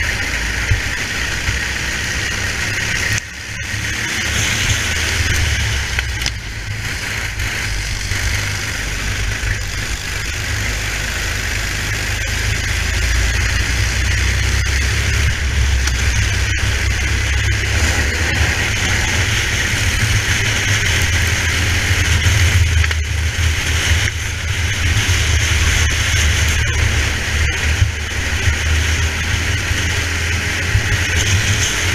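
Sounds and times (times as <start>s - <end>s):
kart engine running: 0.0s - 31.9s.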